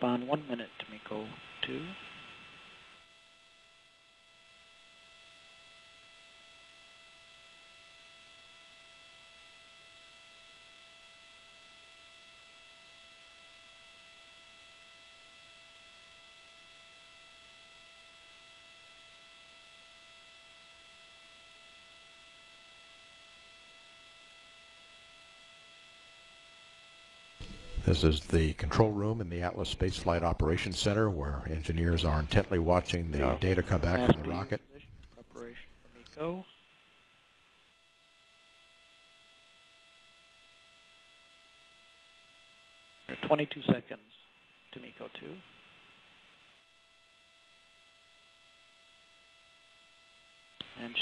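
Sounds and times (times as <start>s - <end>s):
faint electrical hum: 0.0s - 51.0s.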